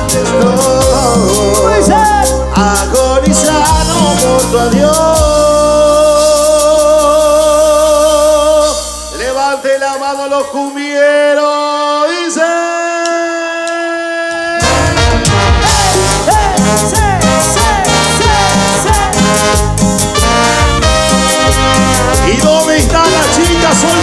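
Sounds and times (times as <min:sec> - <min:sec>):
bass guitar: 0:00.0 - 0:10.6, 0:14.6 - 0:24.0
percussion: 0:00.0 - 0:12.4, 0:14.4 - 0:24.0
keyboard: 0:00.0 - 0:13.6, 0:14.5 - 0:24.0
man singing: 0:00.0 - 0:24.0.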